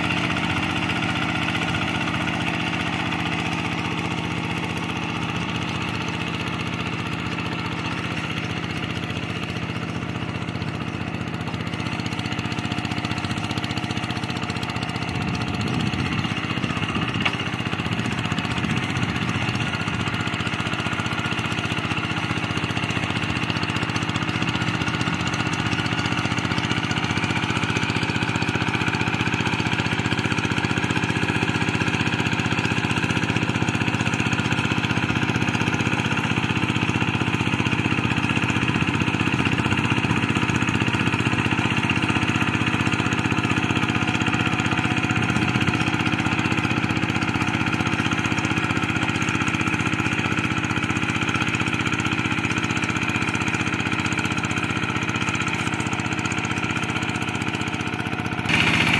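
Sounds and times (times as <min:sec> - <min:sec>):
diesel tractor engine running: 0:00.0 - 0:58.9.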